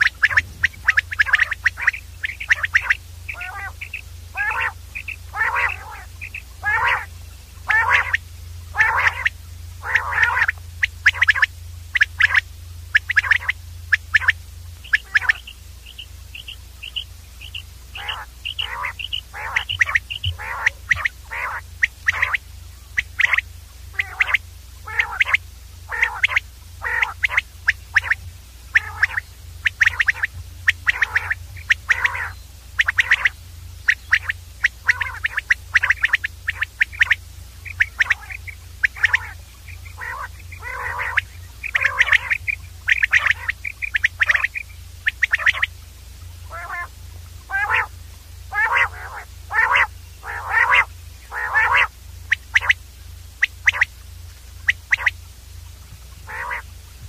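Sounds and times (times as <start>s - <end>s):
quail calling: 0.0s - 56.8s
steady low hum: 0.0s - 57.0s.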